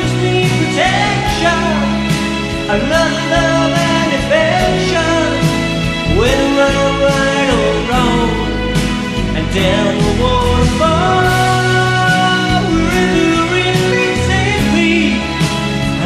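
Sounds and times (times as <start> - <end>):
band backing track: 0.0 - 16.0
man singing pop song: 0.0 - 16.0.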